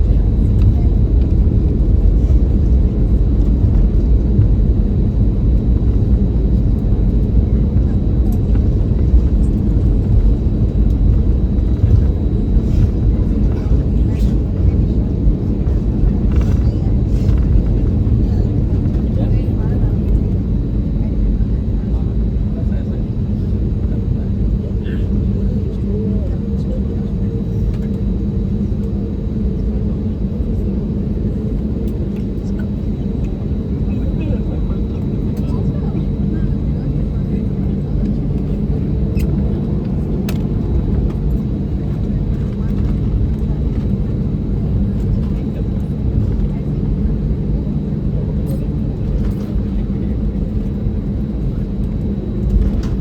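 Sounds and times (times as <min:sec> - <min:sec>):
airplane cabin rumble: 0:00.0 - 0:53.0
steady hum: 0:00.0 - 0:53.0.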